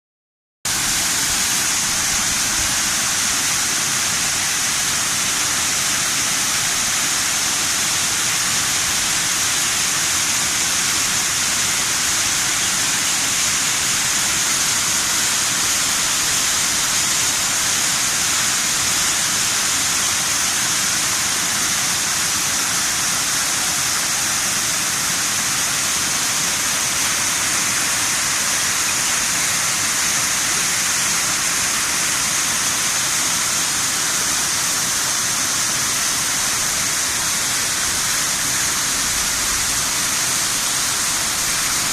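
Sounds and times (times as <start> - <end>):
waterfall rushing: 0.7 - 41.9.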